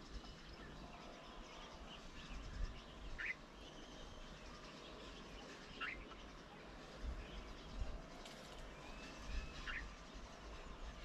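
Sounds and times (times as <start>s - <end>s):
birds calling: 0.0s - 11.0s
faint bird chirps: 0.0s - 11.0s.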